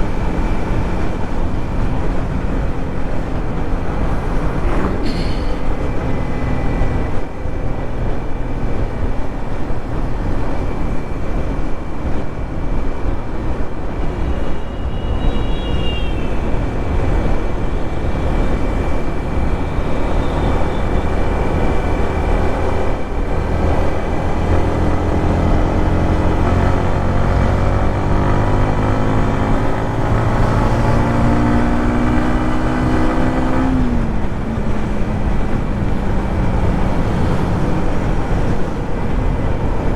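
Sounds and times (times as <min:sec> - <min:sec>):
motorcycle engine and exhaust: 0:00.0 - 0:39.9
wind noise: 0:00.0 - 0:39.9.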